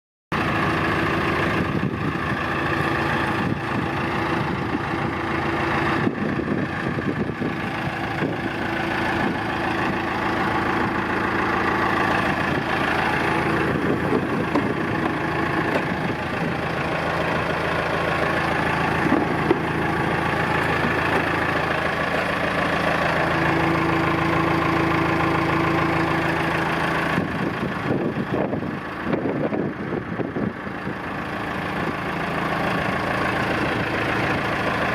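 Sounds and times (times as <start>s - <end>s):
diesel engine idling: 0.3s - 34.9s.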